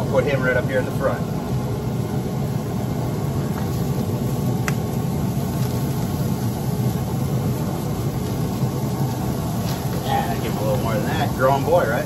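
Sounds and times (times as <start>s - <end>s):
grill fan low drone: 0.0s - 12.0s.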